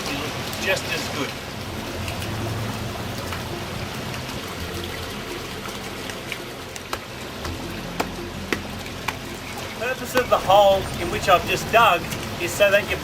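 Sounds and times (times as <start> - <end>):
trickling running water: 0.0 - 13.0.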